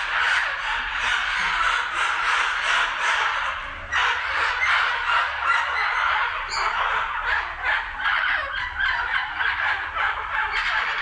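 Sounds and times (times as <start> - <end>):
toucans calling: 0.0 - 11.0.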